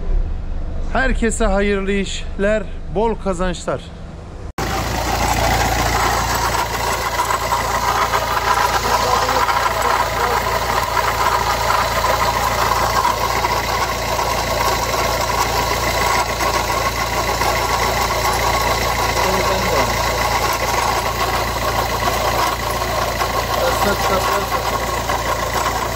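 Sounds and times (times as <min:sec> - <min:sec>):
car engine idling: 0:04.6 - 0:25.9
whirring knocking from engine: 0:04.6 - 0:25.9.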